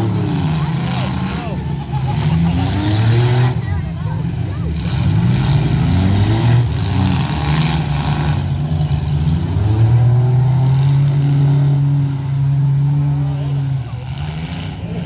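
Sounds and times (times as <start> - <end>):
derby car engines revving: 0.0 - 15.0
engine holding high rev: 0.0 - 15.0.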